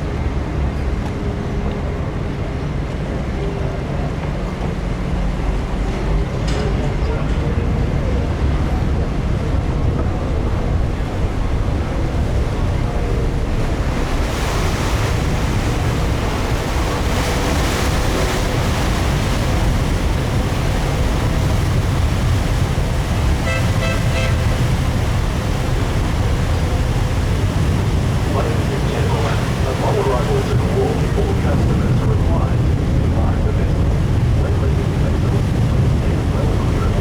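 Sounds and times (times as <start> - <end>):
ferry engine rumble: 0.0 - 37.0
water rushing: 0.0 - 37.0
wind on microphone: 0.0 - 37.0.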